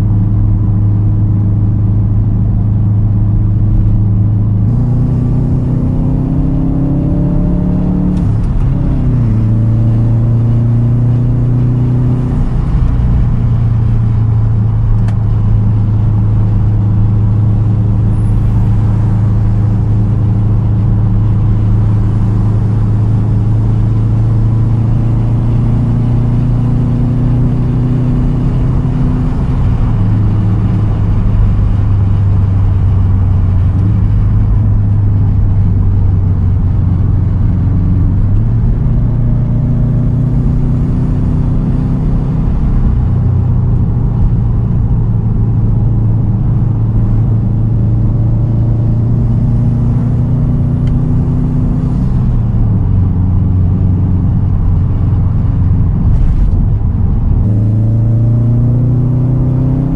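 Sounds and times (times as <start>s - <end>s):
car exhaust low drone: 0.0s - 59.9s.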